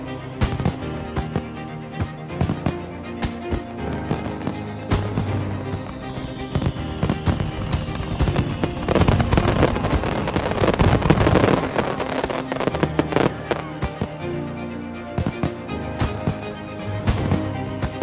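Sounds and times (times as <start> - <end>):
background music: 0.0 - 18.0
fireworks bursting and crackling: 0.4 - 14.2, 15.1 - 18.0.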